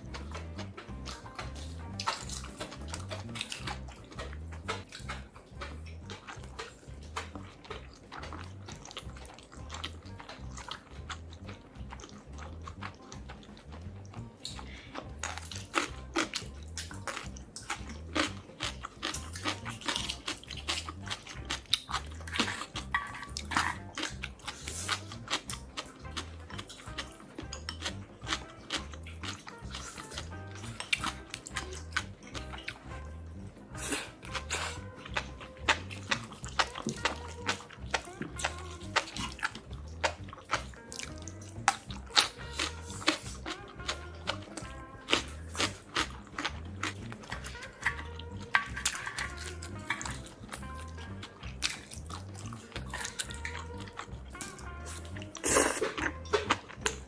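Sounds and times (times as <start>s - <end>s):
background music with low beat: 0.0s - 57.0s
chewing and crunching food: 0.0s - 57.0s.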